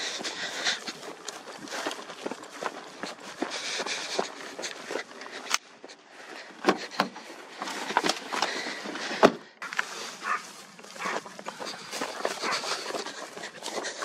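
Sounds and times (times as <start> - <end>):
rustling through undergrowth: 0.0 - 14.0.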